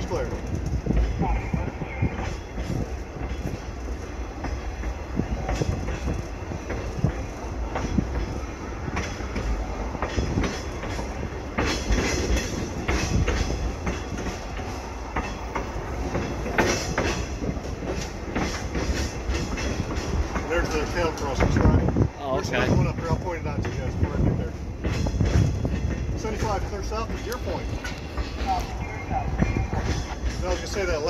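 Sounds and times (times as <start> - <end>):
rail joint clicks and clunks: 0.0 - 31.0
train wheels rumbling on track: 0.0 - 31.0.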